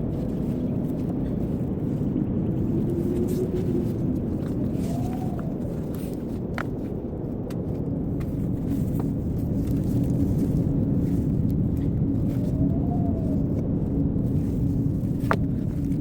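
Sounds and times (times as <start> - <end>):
blizzard wind blowing: 0.0 - 16.0.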